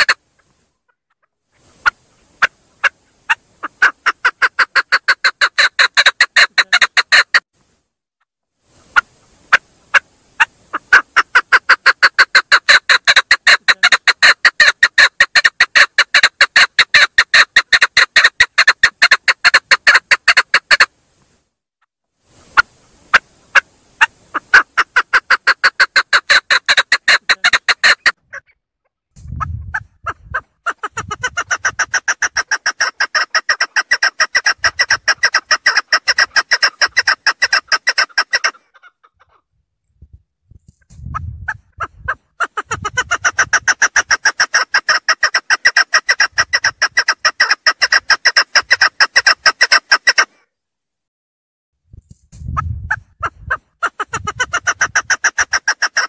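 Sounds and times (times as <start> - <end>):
partridge clucking calls: 0.0 - 0.5, 1.1 - 7.4, 8.8 - 20.9, 22.4 - 28.6, 29.3 - 39.4, 41.5 - 50.3, 52.9 - 56.0.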